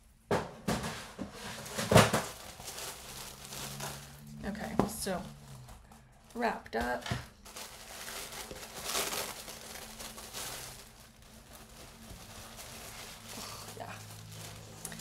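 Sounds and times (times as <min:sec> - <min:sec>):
wrapping paper rustling: 0:01.0 - 0:15.0.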